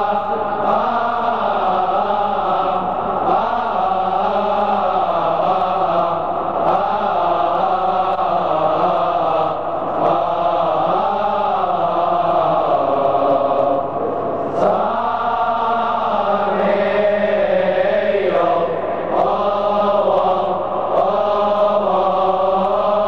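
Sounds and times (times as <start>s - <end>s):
male choir chanting: 0.0s - 23.0s.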